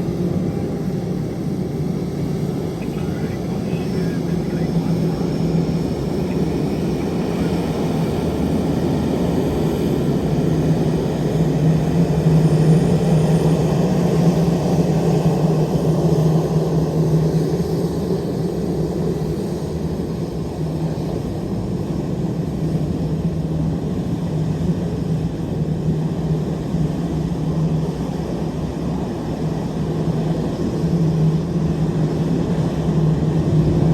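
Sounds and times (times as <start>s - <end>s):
airliner jet engines droning: 0.0s - 33.9s.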